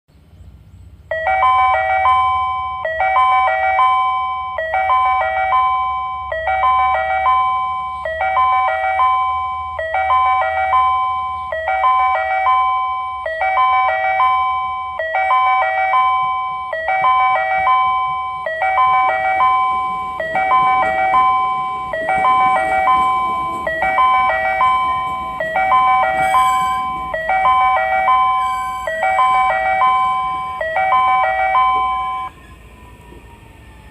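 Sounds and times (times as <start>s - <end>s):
electronic station chime: 1.1s - 32.4s.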